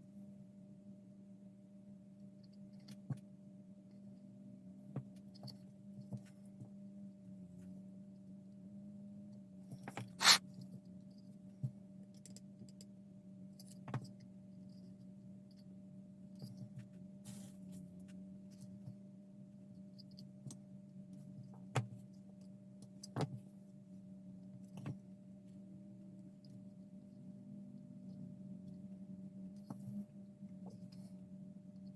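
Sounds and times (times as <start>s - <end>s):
low electrical hum: 0.0s - 31.9s.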